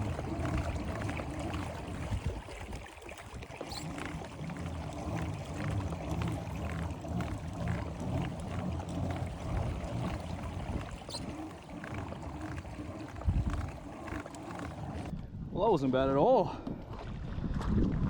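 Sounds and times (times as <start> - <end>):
water lapping against kayak hull: 0.0 - 15.2, 16.6 - 18.0.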